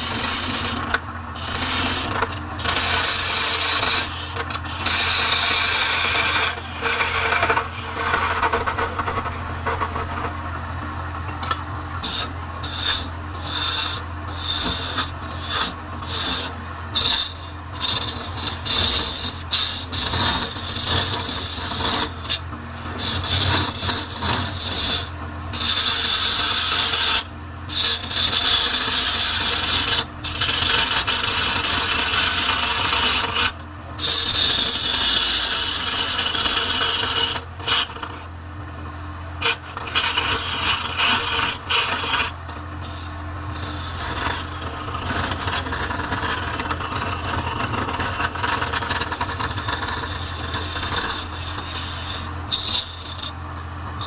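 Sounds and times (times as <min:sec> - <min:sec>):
lathe humming: 0:00.0 - 0:38.2, 0:39.2 - 0:54.0
gouge scraping spinning wood: 0:00.0 - 0:38.4, 0:39.2 - 0:54.0.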